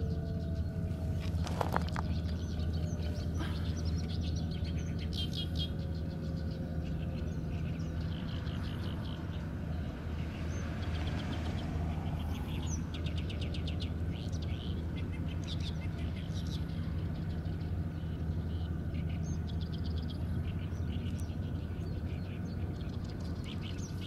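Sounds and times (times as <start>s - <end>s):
low background hum: 0.0s - 24.0s
small birds chirping: 0.0s - 24.0s.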